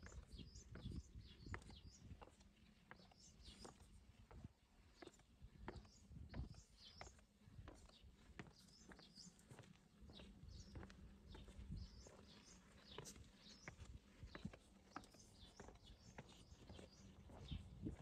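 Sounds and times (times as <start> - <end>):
footsteps on stone path: 0.0 - 18.0
small birds chirping: 0.0 - 18.0.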